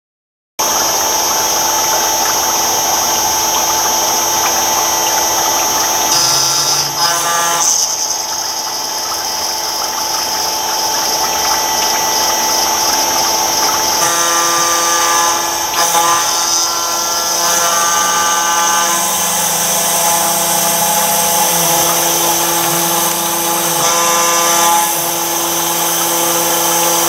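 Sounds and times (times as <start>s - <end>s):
router spindle cutting stone: 0.6s - 27.0s.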